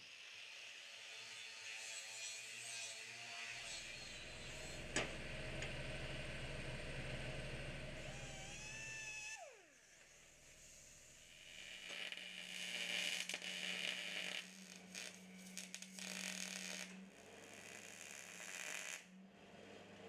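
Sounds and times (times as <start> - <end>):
power tool whirring: 3.0 - 19.2.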